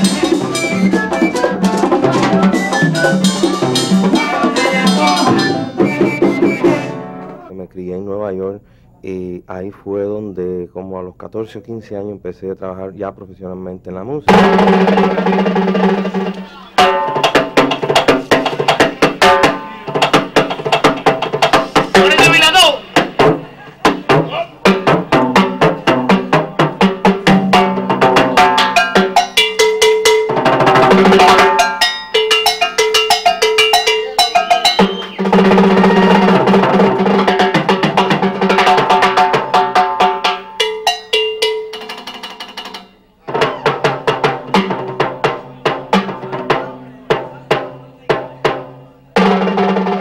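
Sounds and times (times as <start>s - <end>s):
timbales played with sticks: 0.0s - 7.5s, 14.3s - 50.0s.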